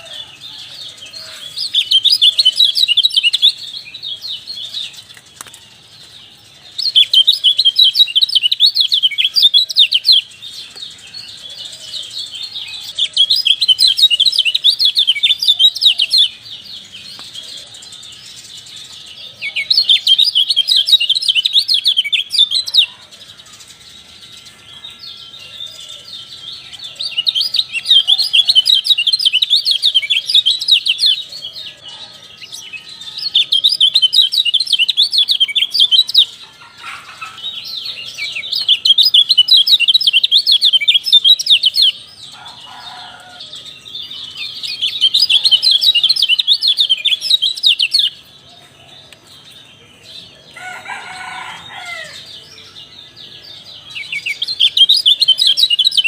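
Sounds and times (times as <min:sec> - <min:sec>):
lower-pitched bird call: 0:00.0 - 0:18.0, 0:19.2 - 0:49.2
bird twittering song: 0:00.0 - 0:56.0.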